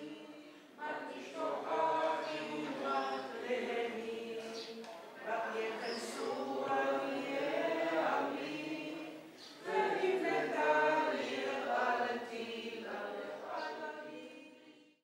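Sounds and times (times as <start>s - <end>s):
unaccompanied choir singing: 0.0s - 15.0s.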